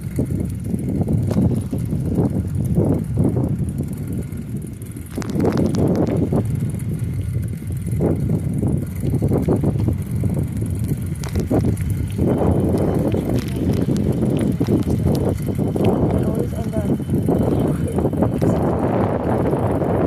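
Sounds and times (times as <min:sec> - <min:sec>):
bicycle frame rattling: 0:00.0 - 0:20.0
low rumble of tyres: 0:00.0 - 0:20.0
wind buffeting microphone: 0:00.0 - 0:20.0.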